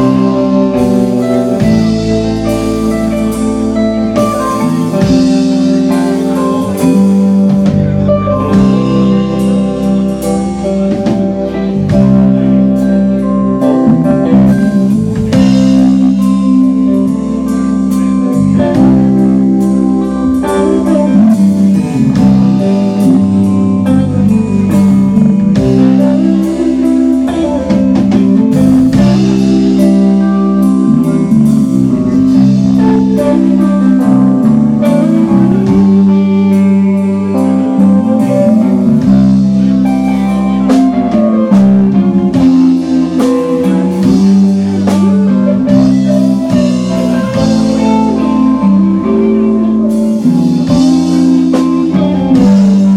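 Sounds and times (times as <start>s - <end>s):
drum kit: 0.0s - 52.9s
electric guitars: 0.0s - 52.9s.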